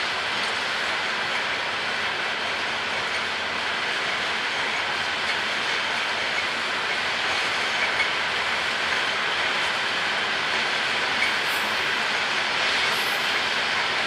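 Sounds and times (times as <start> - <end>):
train wheels running on rail: 0.0 - 14.0.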